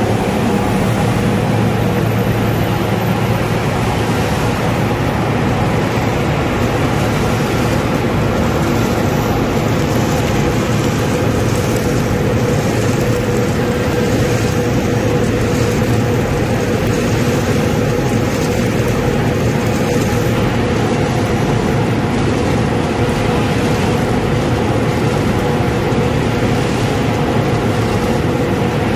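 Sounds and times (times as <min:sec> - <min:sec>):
constant hum: 0:00.0 - 0:28.9
processing machinery running: 0:00.0 - 0:28.9.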